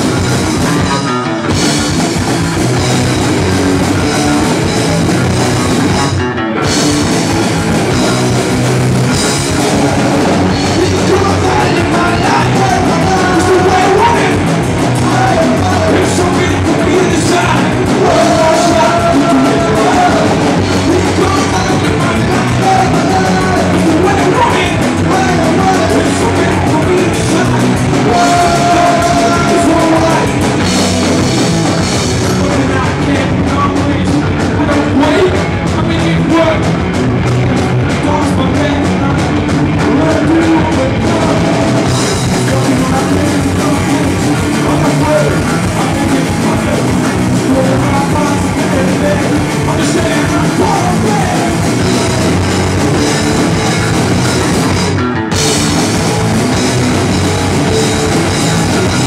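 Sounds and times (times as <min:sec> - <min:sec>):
male lead singer: 0:00.0 - 0:59.0
rock band playing live: 0:00.0 - 0:59.0.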